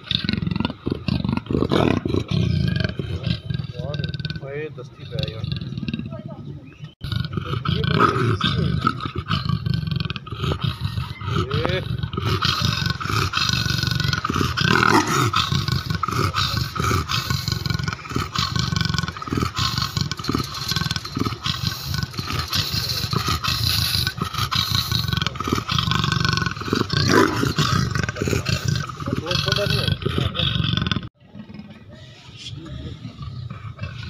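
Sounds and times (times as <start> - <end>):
leopard snarling and growling: 0.0 - 34.0.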